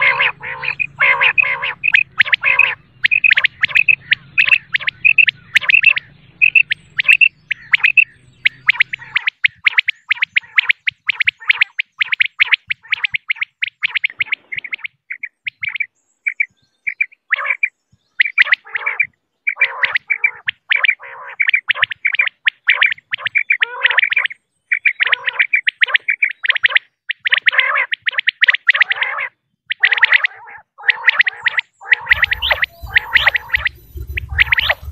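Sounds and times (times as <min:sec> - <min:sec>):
quail chirping: 0:00.0 - 0:34.9.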